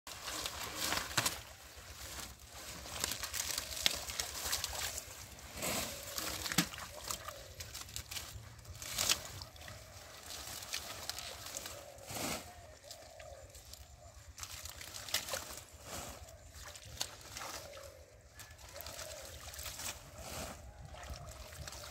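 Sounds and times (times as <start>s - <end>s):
plants rustling and crackling: 0.1s - 21.9s
splashing in shallow water: 0.1s - 21.9s.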